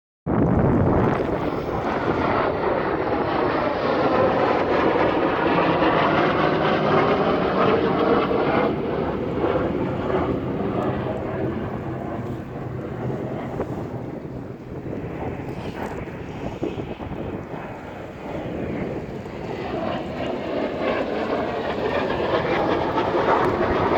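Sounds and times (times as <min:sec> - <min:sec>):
airplane flying past low: 0:00.3 - 0:23.9.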